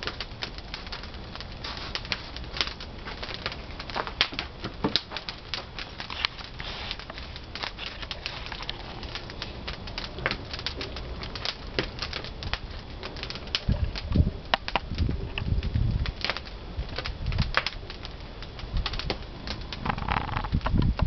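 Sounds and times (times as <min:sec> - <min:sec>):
firewood crackling and popping: 0:00.0 - 0:21.0
low rumble of fire: 0:00.0 - 0:21.0.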